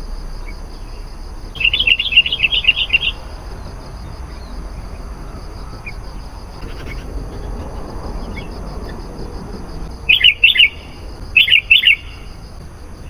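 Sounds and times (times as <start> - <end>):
bulbul double-note calls: 0.0 - 13.0.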